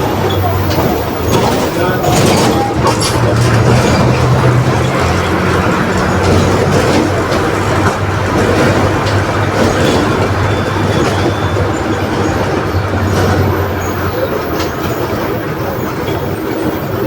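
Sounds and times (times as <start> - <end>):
bus engine droning: 0.0 - 17.0
road and body rumble: 0.0 - 17.0.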